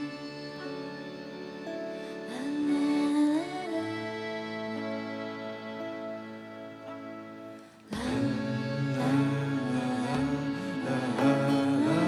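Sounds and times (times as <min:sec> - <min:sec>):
live band playing: 0:00.0 - 0:03.2, 0:04.1 - 0:12.0.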